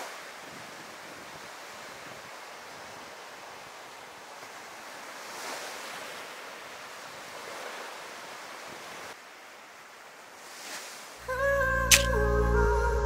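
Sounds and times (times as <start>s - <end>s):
waves washing on beach: 0.0s - 11.2s.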